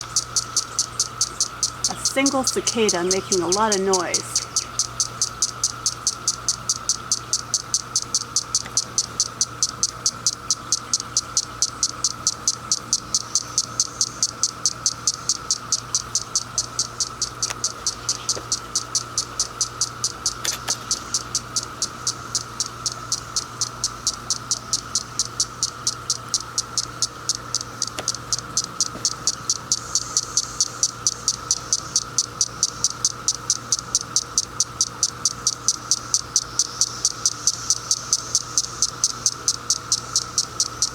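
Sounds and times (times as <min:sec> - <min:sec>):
droning cicada chorus: 0:00.0 - 0:40.9
rapid high cicada clicking: 0:00.0 - 0:40.9.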